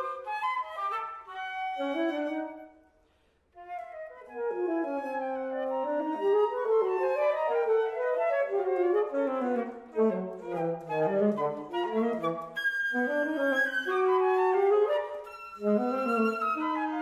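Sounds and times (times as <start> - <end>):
flute: 0.0 - 17.0
alto saxophone: 1.1 - 2.8, 4.5 - 17.0.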